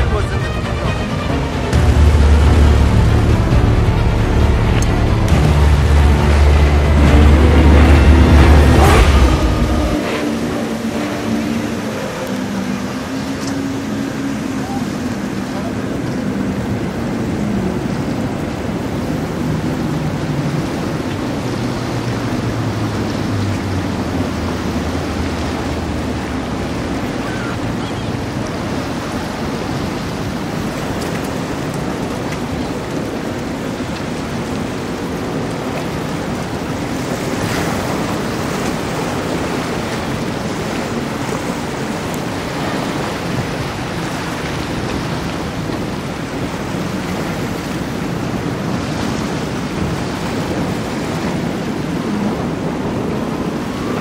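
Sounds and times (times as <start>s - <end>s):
waves and surf: 0.0s - 54.0s
wind buffeting microphone: 4.6s - 54.0s.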